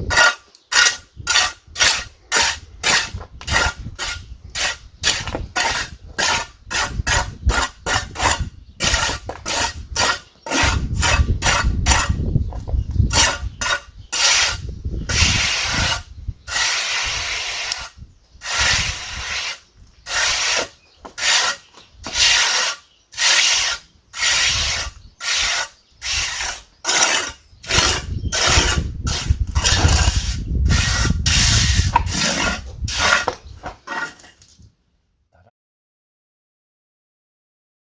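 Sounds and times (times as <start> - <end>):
hand tool rasping: 0.0 - 12.3, 13.1 - 34.4.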